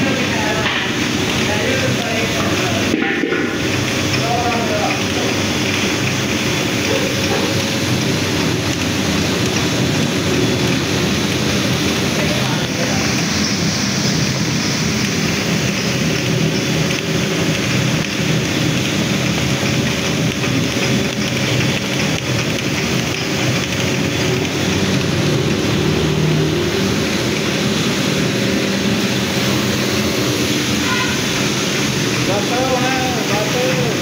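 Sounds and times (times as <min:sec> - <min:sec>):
oil expeller crushing seed: 0:00.0 - 0:34.0.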